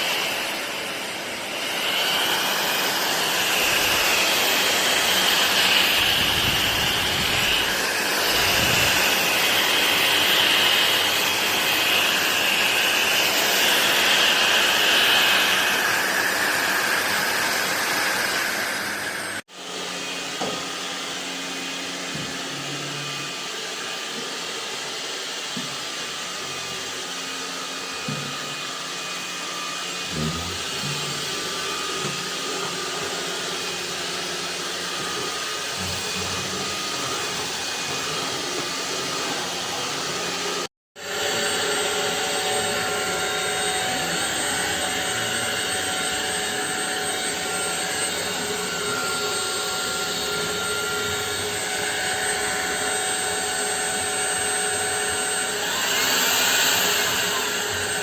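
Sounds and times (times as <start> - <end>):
stick vacuum running: 0.0 - 58.0.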